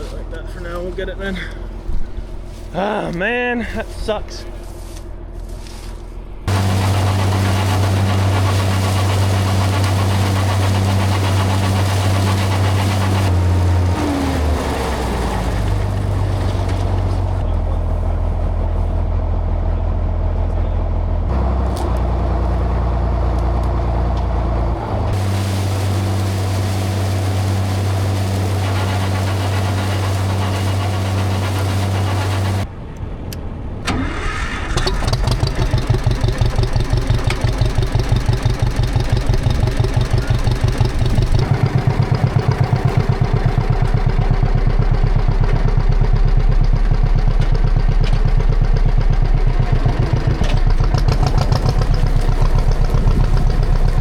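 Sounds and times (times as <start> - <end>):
tractor engine running: 0.0 - 54.0
throbbing engine idle: 6.4 - 32.7, 34.8 - 54.0.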